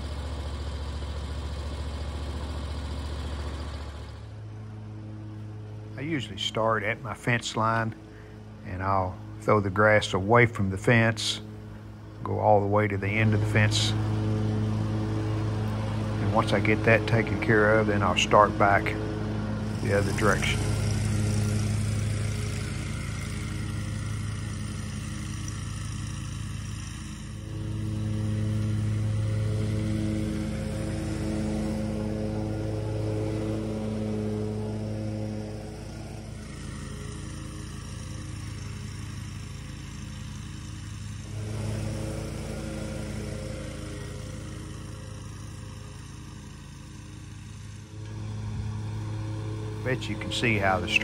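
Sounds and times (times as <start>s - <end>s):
lawn mower engine droning: 0.0s - 51.0s.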